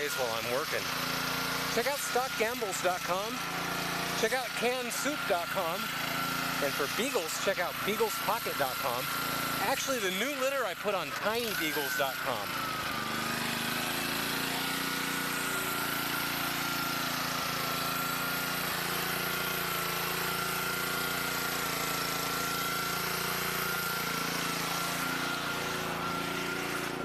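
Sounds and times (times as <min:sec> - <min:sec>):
pressure washer whine: 0:00.0 - 0:27.0.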